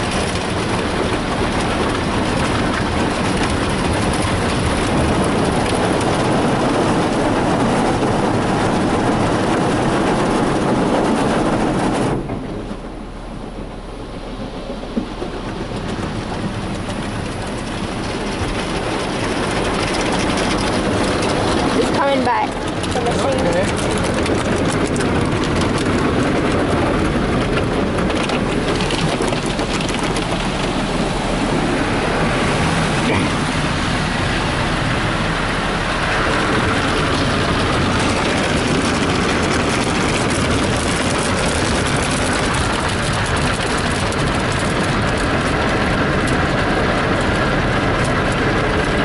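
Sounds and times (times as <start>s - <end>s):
car wash spraying on car body: 0.0s - 49.0s.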